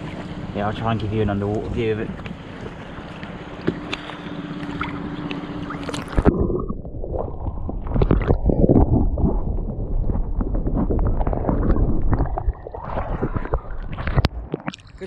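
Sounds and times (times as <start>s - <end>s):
underwater sloshing and gurgling: 0.0s - 15.0s
water and wind noise: 0.0s - 15.0s.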